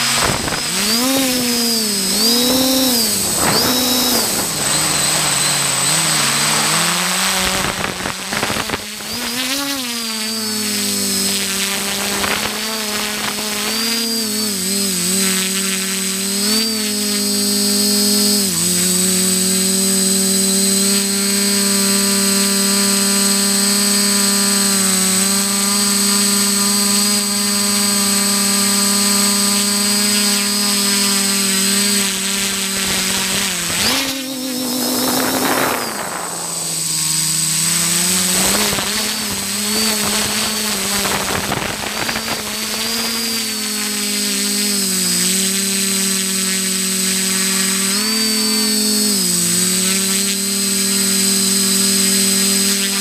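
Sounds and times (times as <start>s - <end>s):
drone propellers whining: 0.0s - 52.7s.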